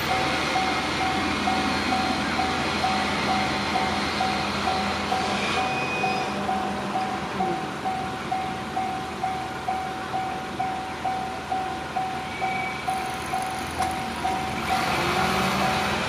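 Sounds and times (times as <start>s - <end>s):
level crossing bell ringing: 0.0s - 16.0s
train running: 0.0s - 16.0s.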